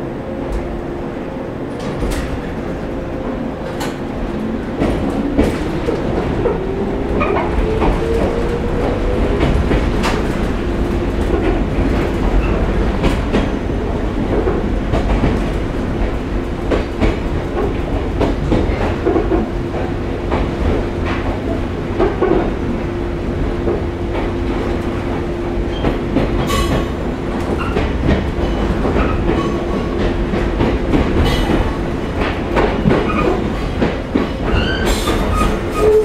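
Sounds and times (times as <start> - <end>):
train interior rumble: 0.0 - 36.0.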